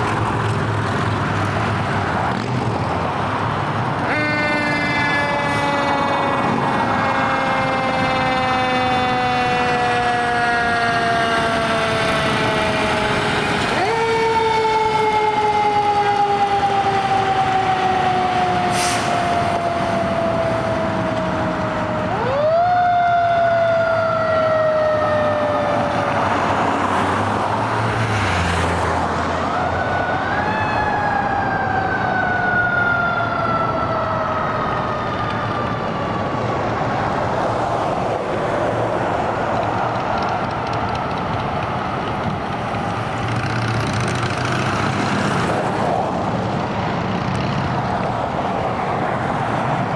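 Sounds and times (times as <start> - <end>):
road noise: 0.0 - 49.9.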